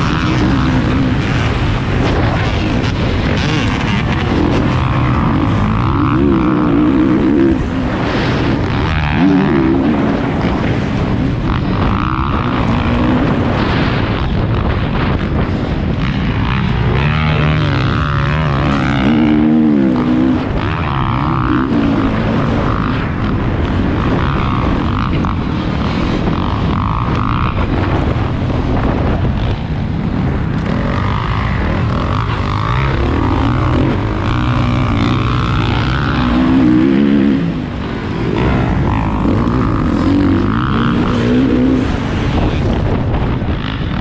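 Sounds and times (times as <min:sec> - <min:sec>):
dirt bike engine revving: 0:00.0 - 0:44.0
wind rushing: 0:00.0 - 0:44.0.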